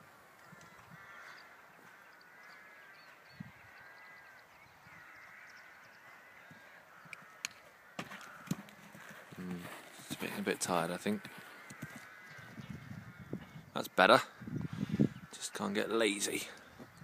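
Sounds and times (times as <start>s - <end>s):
distant birds calling: 0.0s - 17.0s.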